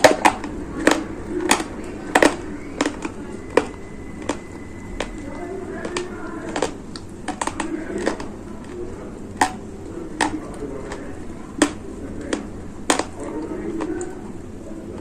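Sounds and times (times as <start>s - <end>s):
dry clay cracking: 0.0s - 15.0s.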